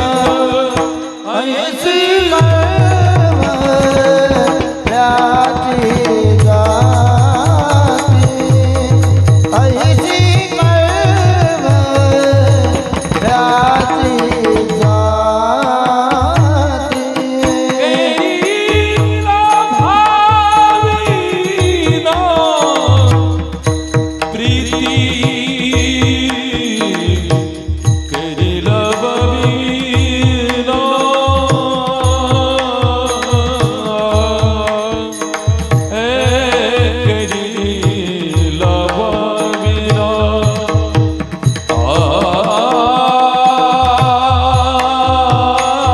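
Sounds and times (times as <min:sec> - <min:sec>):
person singing devotional melody: 0:00.0 - 0:45.9
hand-drum strokes: 0:02.2 - 0:45.9.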